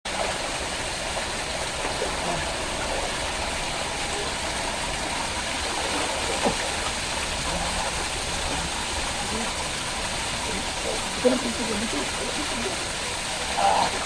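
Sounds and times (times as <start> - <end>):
waterfall roaring: 0.1 - 14.0.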